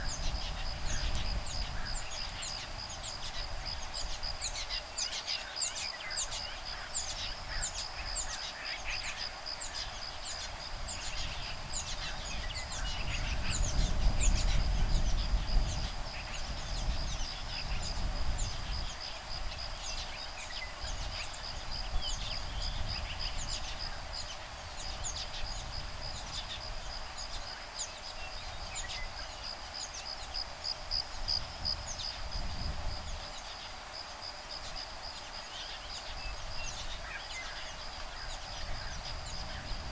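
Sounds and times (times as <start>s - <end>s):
wind rumble on microphone: 0.0s - 5.1s, 6.0s - 39.9s.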